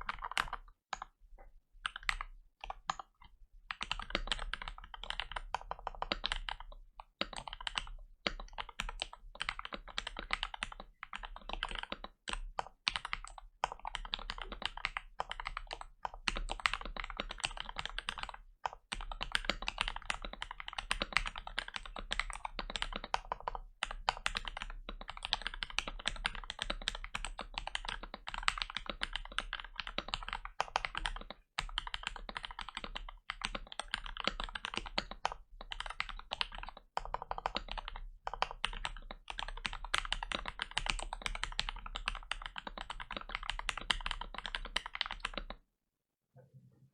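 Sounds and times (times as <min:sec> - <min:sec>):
fast mechanical keyboard typing: 0:00.0 - 0:01.1, 0:01.8 - 0:03.0, 0:03.7 - 0:45.6.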